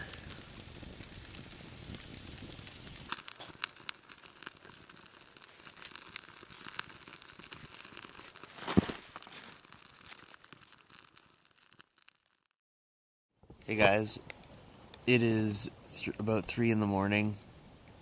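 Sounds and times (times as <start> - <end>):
campfire crackling and popping: 0.0 - 12.6, 13.4 - 18.0.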